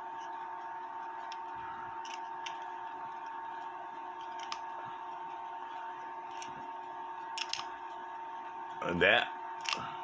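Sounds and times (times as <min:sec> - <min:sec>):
steady high-pitched hum: 0:00.0 - 0:10.0.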